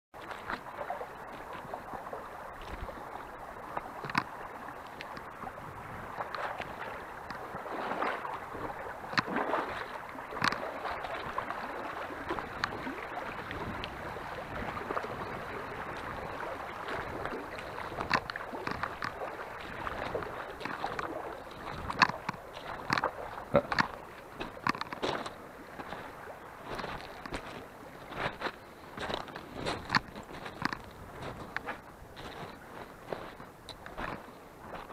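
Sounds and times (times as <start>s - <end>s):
river gurgling over stones: 0.2s - 34.9s
wading splashes and knocks: 0.2s - 34.9s.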